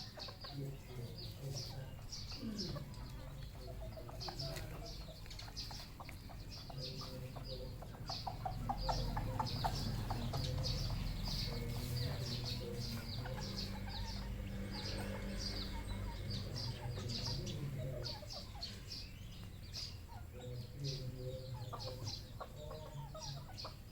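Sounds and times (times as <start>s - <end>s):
high-pitched chirps and peeps: 0.0s - 23.9s
junglefowl clucking: 0.0s - 23.9s.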